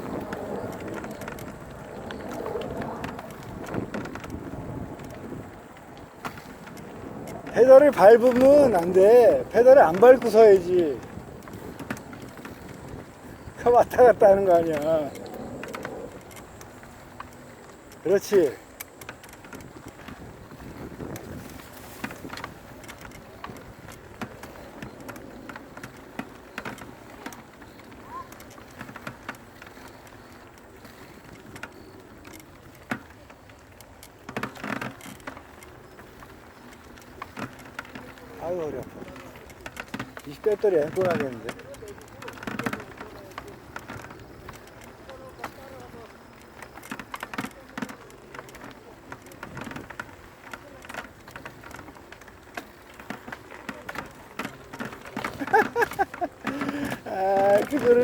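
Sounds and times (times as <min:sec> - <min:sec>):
bike clicks and rattles: 0:00.0 - 0:58.0
bike tyres on dirt and stones: 0:00.0 - 0:58.0.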